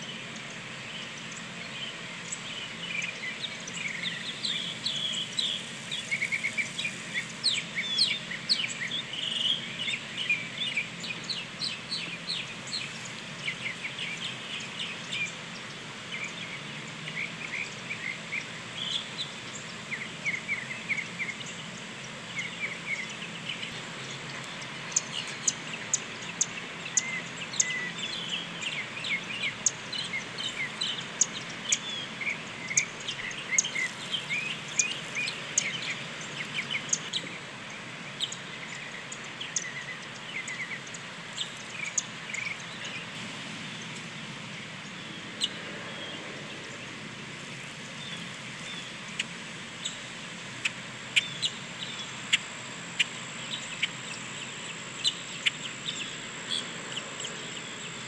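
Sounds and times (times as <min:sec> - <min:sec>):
small birds chirping and singing: 0:00.0 - 0:58.0.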